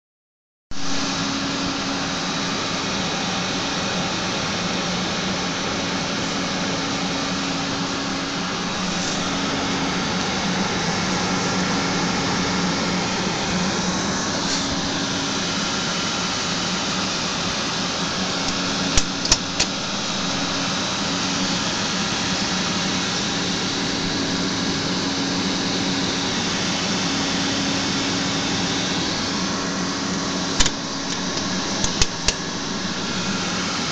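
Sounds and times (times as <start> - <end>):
computer fans whirring: 0.8 - 33.9
low hum: 0.8 - 33.9.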